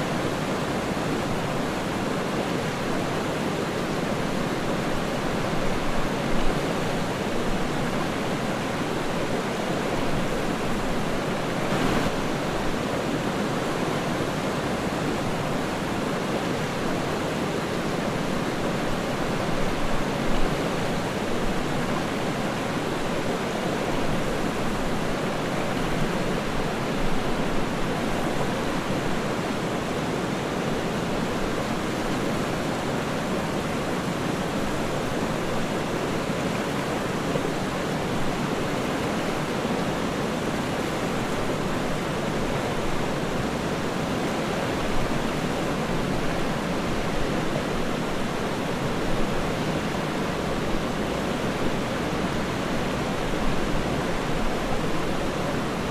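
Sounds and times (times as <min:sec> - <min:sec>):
waterfall rushing water: 0:00.0 - 0:55.9.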